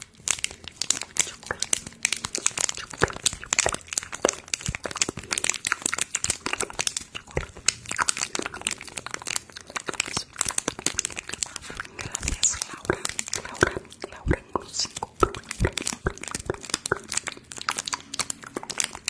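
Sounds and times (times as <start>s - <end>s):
crinkling and crackling: 0.0s - 19.0s.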